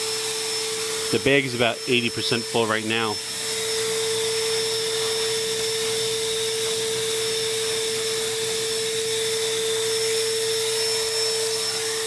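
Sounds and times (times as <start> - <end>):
shop vacuum running: 0.0 - 12.0.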